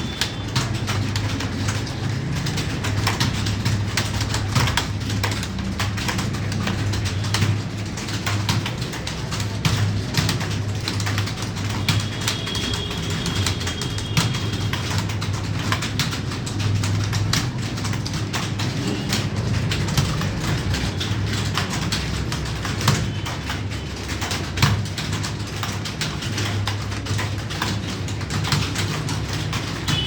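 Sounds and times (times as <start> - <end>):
keyboard typing clicks: 0.0 - 30.0.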